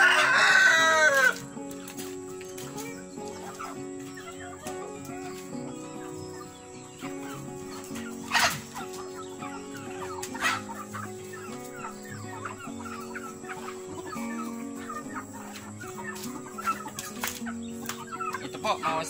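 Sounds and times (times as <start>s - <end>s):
chickens clucking: 0.0s - 19.0s
soft background music: 0.0s - 19.0s.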